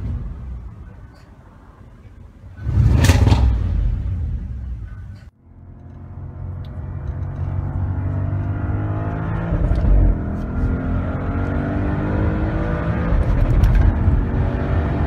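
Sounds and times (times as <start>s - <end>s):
car engine accelerating: 2.5s - 15.0s.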